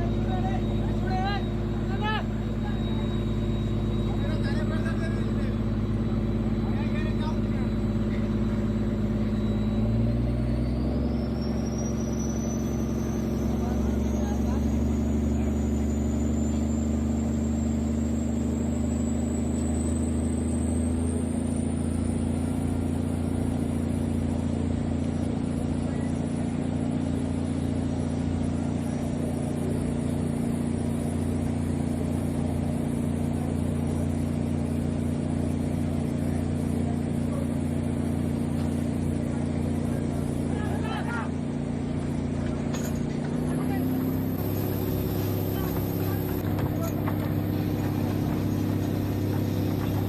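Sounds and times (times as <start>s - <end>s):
engine droning with high whine: 0.0s - 50.0s.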